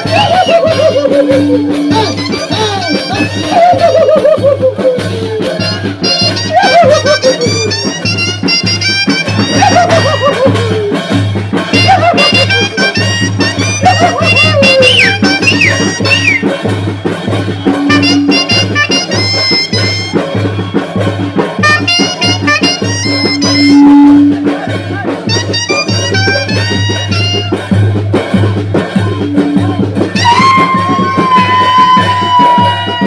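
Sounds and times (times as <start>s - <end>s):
festive band music: 0.0s - 33.0s.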